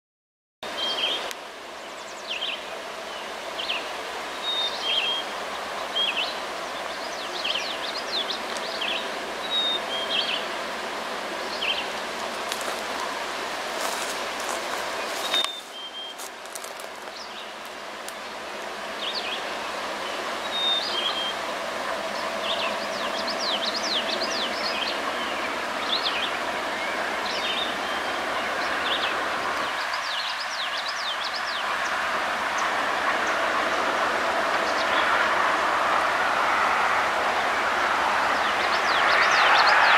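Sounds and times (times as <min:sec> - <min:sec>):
outdoor hiss: 0:00.7 - 0:39.9
songbirds chirping: 0:00.7 - 0:39.9
freight train: 0:02.4 - 0:39.9.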